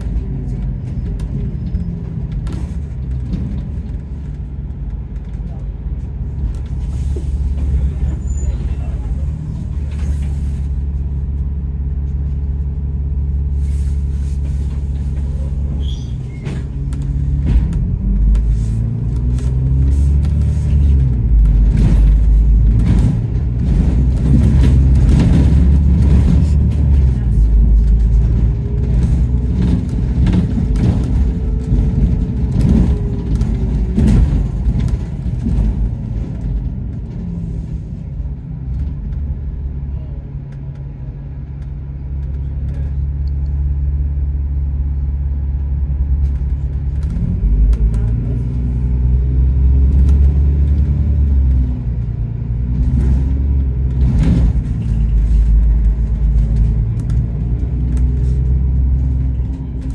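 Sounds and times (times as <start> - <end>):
bus engine: 0.0 - 59.9.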